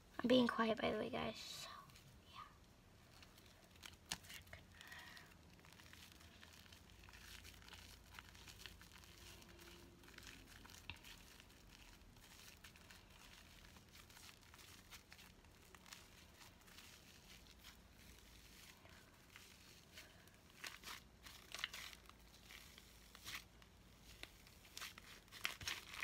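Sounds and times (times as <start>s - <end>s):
slime crackling and popping: 2.6s - 26.0s.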